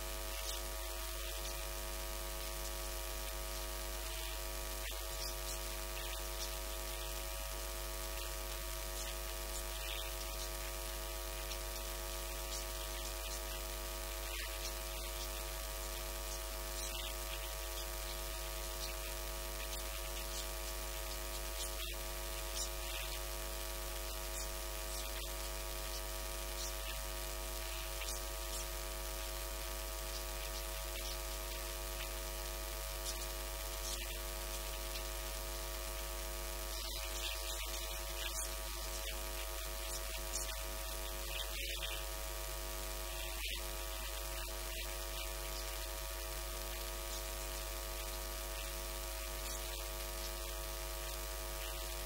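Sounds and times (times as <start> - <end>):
electrical mains hum: 0.0 - 52.0
static hiss: 0.0 - 52.0.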